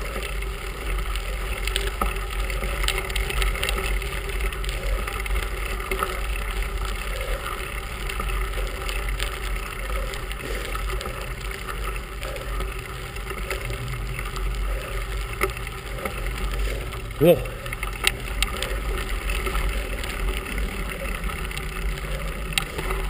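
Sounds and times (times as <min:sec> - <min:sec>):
bicycle tyres on gravel: 0:00.0 - 0:23.0.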